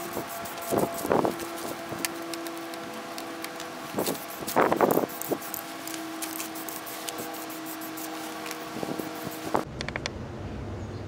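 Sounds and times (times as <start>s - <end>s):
newspaper rustling and crinkling: 0.2s - 9.6s.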